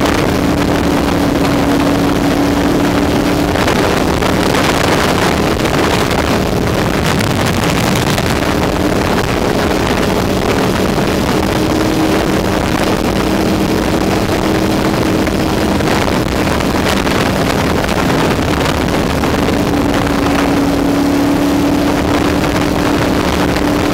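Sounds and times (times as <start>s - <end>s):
motorcycle engine cruising: 0.0s - 23.9s
wind rushing over microphone: 0.0s - 23.9s.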